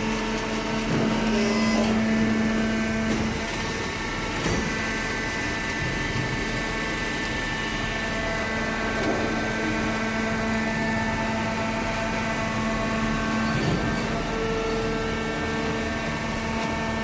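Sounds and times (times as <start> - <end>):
motor and hydraulic pump humming: 0.0 - 17.0.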